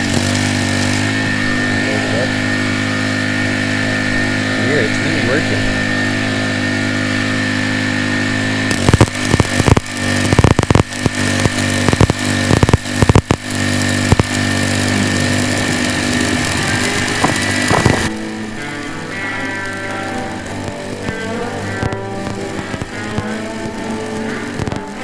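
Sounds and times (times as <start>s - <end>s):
generator engine running: 0.0s - 25.0s
welding arc crackling and hissing: 0.0s - 25.0s.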